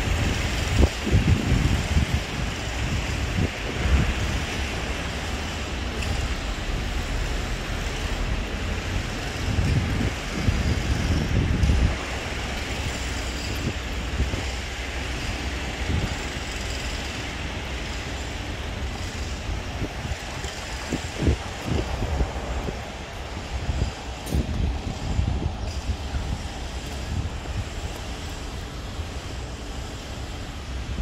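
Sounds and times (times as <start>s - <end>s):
distant road traffic hum: 0.0s - 31.0s
wind buffeting microphone: 0.0s - 31.0s.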